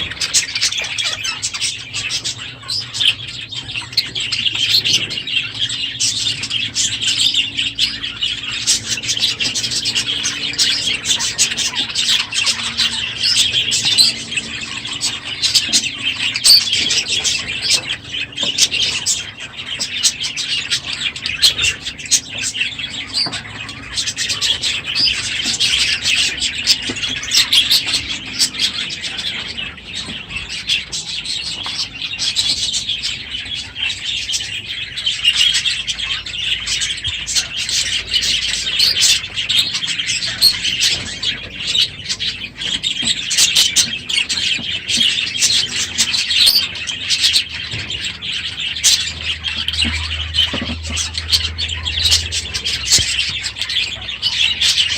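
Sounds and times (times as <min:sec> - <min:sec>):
budgerigars chattering and chirping: 0:00.0 - 0:54.9.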